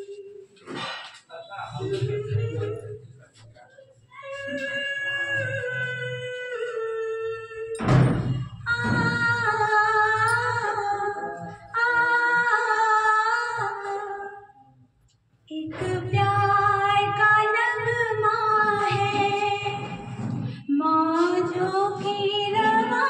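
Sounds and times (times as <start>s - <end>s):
woman singing unaccompanied: 1.8s - 3.0s, 4.2s - 14.6s, 15.5s - 23.0s.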